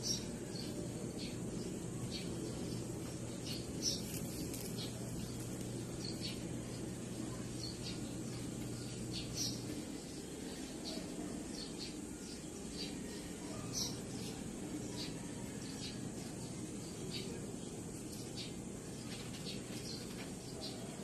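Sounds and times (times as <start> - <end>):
bird chirping: 0.0 - 21.0
steady low hum: 0.0 - 21.0.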